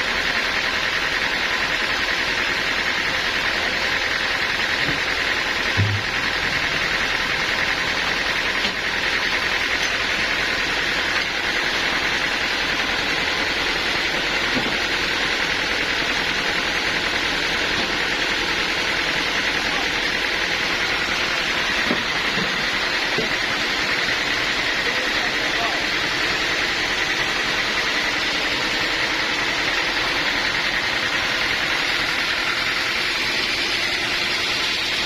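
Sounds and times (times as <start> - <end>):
sawmill machinery running: 0.0 - 35.0.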